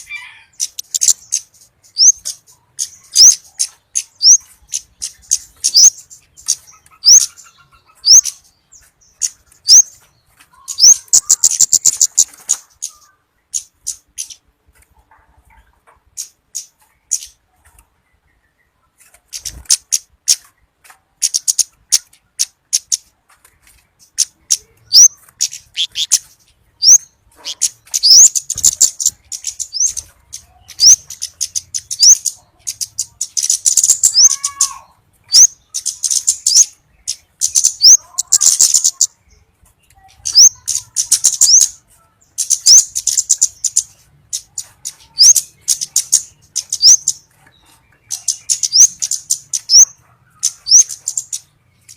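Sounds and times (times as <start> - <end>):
bird calling high ticking chips: 0.0 - 14.5, 21.1 - 51.9.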